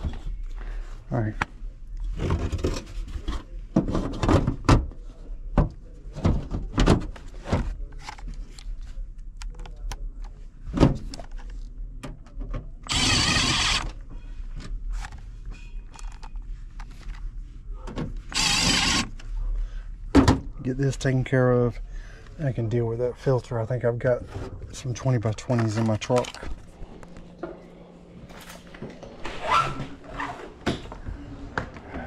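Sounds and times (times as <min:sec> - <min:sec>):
constant low hum: 0:00.0 - 0:32.0.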